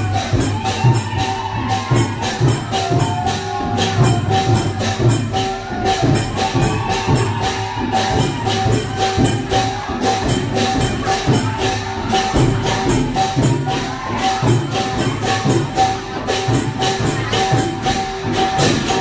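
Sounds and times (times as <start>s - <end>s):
percussion band procession music: 0.0s - 19.0s.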